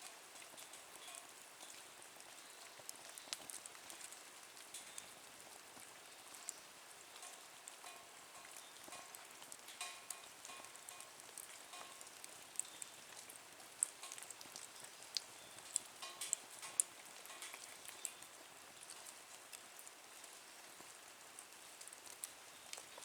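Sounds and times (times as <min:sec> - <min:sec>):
wood fire crackling and popping: 0:00.1 - 0:20.0.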